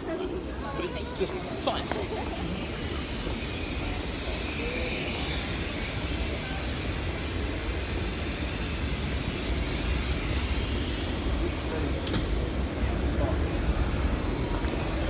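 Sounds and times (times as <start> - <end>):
stopped train rumble and hum: 0.0 - 15.0.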